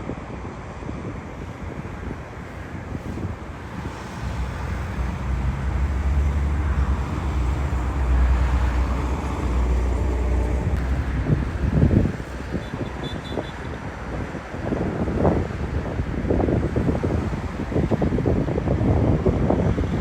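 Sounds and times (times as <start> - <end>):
jet airliner engines rumbling: 0.0 - 20.0
wind buffeting microphone: 0.0 - 20.0.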